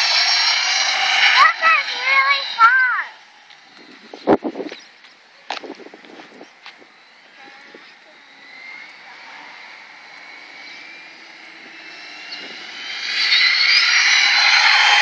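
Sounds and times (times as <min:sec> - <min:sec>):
rc truck motor whine: 0:00.0 - 0:15.0.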